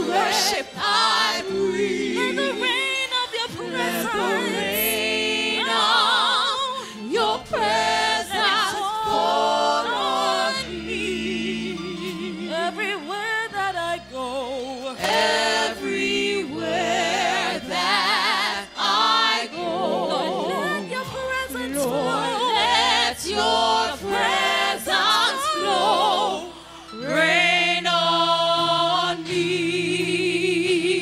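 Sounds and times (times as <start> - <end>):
vocal group singing: 0.0 - 31.0.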